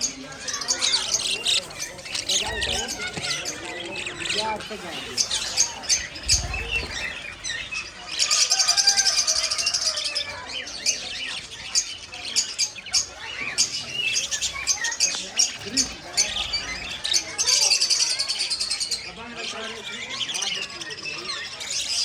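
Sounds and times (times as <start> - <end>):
budgerigars chattering and chirping: 0.0 - 22.0.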